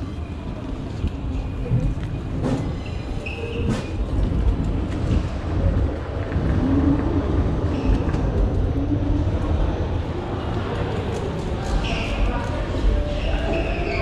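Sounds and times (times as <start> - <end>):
wind buffeting microphone: 0.4 - 11.6.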